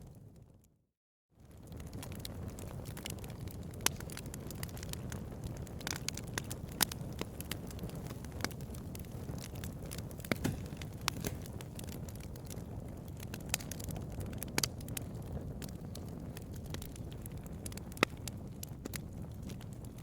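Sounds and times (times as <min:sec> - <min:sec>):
fire crackles and pops: 0:00.0 - 0:00.7, 0:01.4 - 0:20.0
bonfire flame rumble: 0:01.4 - 0:20.0.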